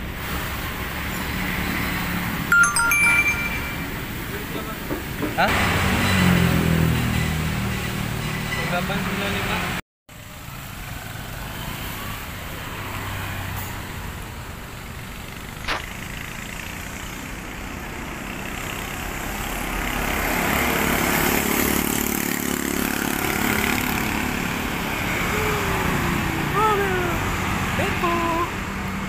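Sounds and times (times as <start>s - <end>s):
trucks passing by: 0.0s - 29.0s.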